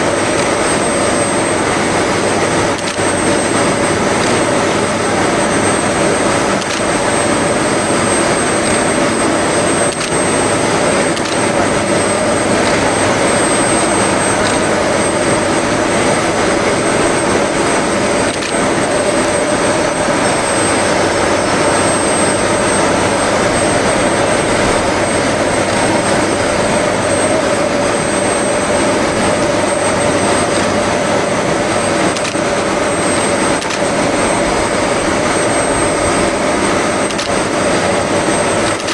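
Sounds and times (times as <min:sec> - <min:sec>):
constant hum: 0:00.0 - 0:38.9
steam locomotive roaring: 0:00.0 - 0:38.9.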